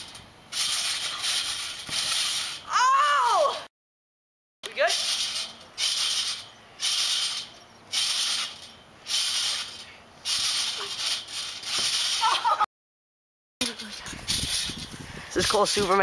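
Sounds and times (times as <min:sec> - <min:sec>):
trampoline springs rattling: 0:00.0 - 0:03.6, 0:04.6 - 0:12.7, 0:13.6 - 0:16.0.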